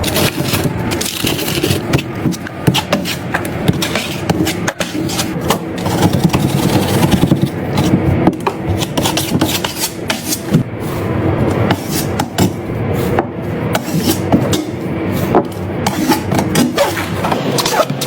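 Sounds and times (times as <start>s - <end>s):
tool scraping drywall: 0.0s - 18.0s.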